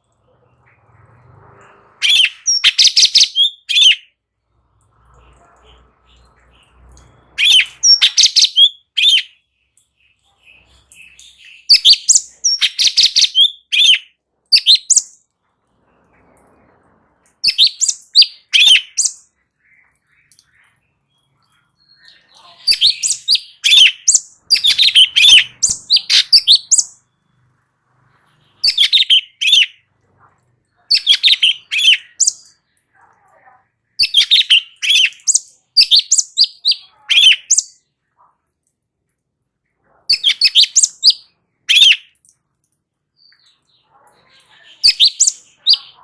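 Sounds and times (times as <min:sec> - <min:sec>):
songbird chirping: 0:00.0 - 0:38.5, 0:39.6 - 0:46.0.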